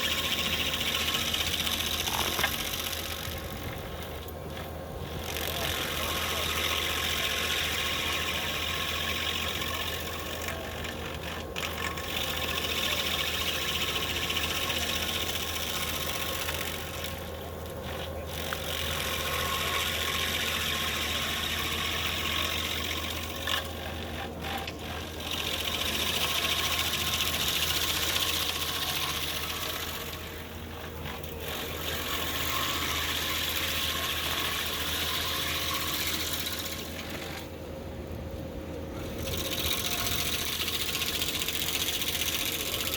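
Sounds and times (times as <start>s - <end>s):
engine drone: 0.0s - 42.9s
stump grinder grinding: 0.0s - 42.9s.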